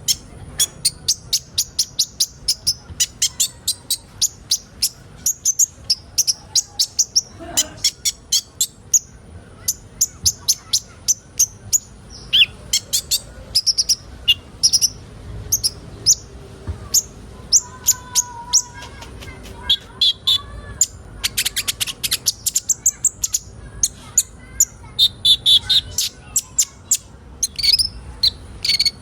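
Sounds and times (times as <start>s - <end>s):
bird high chirps: 0.0s - 29.0s.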